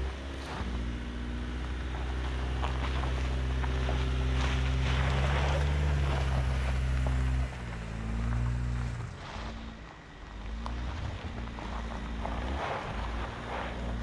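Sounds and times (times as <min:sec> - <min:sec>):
car engine running: 0:00.0 - 0:14.0
tyres crunching over stones: 0:00.0 - 0:14.0.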